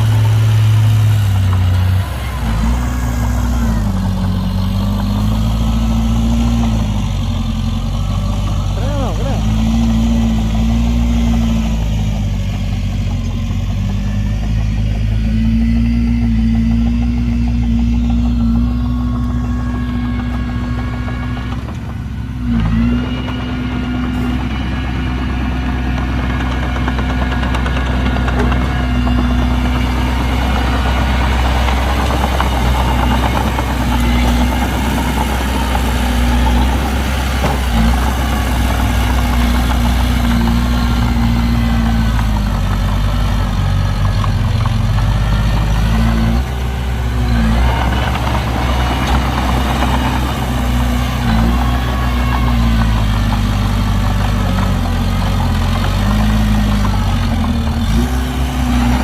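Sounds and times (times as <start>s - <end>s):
heavy diesel engines revving: 0.0s - 59.0s.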